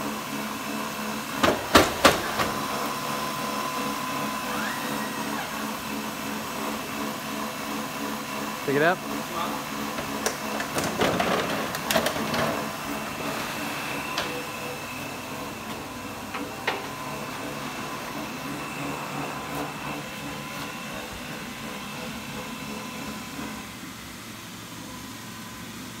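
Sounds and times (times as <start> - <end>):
factory machinery hum: 0.0 - 26.0.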